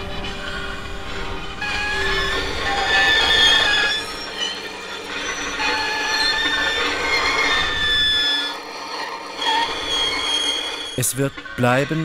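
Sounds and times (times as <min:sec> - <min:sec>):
low grinding rumble: 0:00.0 - 0:12.0
metal screeching: 0:00.0 - 0:12.0.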